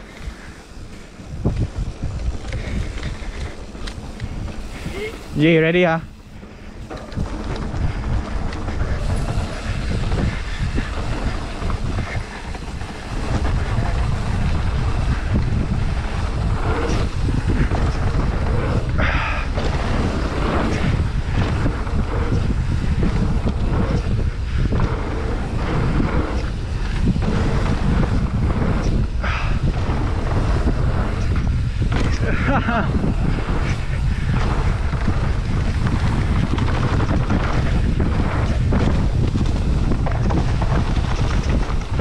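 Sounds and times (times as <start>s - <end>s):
bike knocks and rattles: 0.0s - 42.0s
tyres rumbling on dirt trail: 0.0s - 42.0s
wind buffeting microphone: 0.0s - 42.0s.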